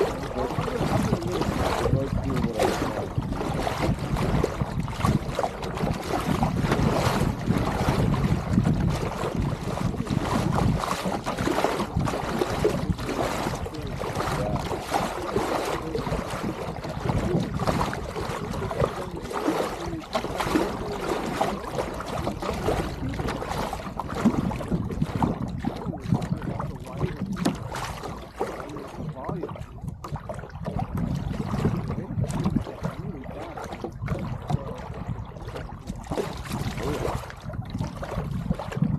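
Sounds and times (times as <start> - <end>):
water splashing against boat bow: 0.0 - 38.9
wind buffeting microphone: 0.0 - 38.9.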